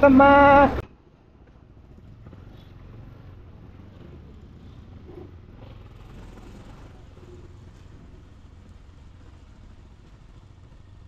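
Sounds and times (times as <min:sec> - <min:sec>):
motorcycle engine running: 0:00.4 - 0:11.0.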